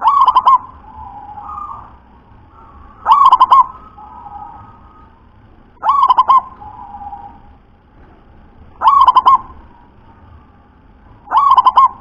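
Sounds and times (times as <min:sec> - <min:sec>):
dove cooing: 0:00.0 - 0:07.6, 0:08.8 - 0:10.2, 0:11.2 - 0:12.0.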